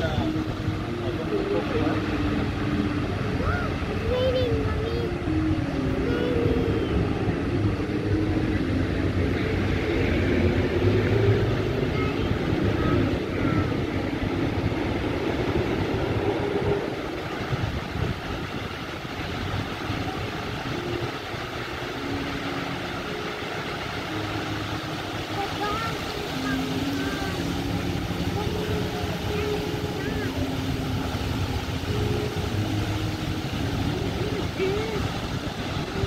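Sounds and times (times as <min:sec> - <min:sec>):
fountain water jets spraying: 0:00.0 - 0:36.0
street traffic rumble: 0:00.0 - 0:36.0.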